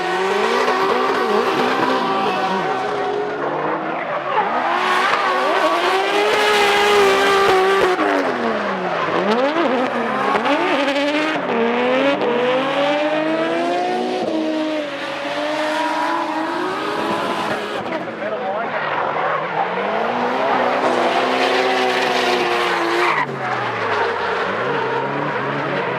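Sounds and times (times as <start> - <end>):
car engines revving hard: 0.0 - 25.9.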